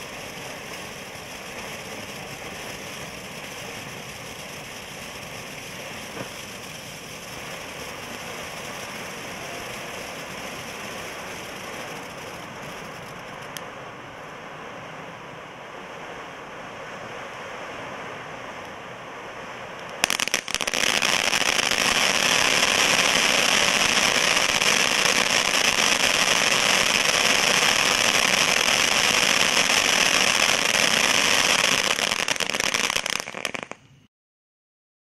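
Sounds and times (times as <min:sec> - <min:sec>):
fountain firework hissing and crackling: 0:00.0 - 0:34.0.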